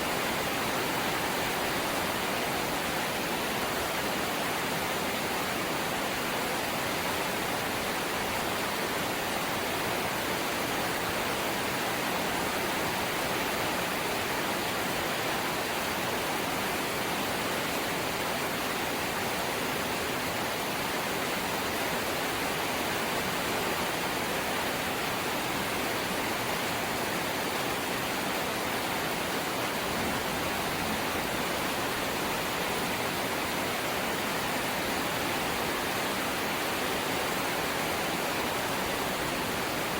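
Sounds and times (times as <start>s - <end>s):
heavy rain on metal roof: 0.0s - 39.9s.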